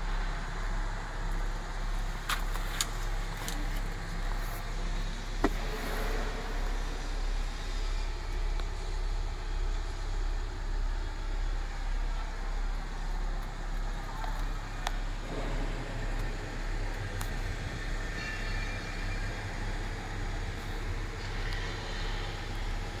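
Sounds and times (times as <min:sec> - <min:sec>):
truck engine deep rumble: 0:00.0 - 0:23.0.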